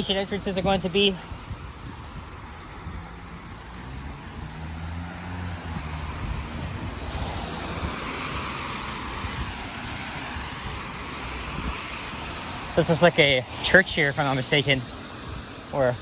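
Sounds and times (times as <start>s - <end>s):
tyres hissing on wet road: 0.0s - 16.0s.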